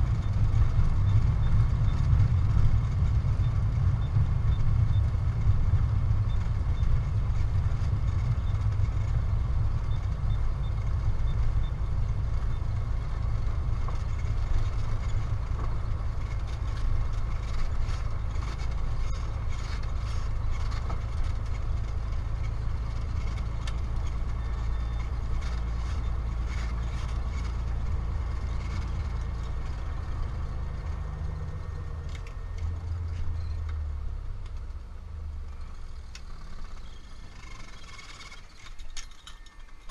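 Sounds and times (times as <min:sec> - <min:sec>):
airframe rattles and knocks: 0:00.0 - 0:33.6
propeller plane engine at low power: 0:00.0 - 0:39.9.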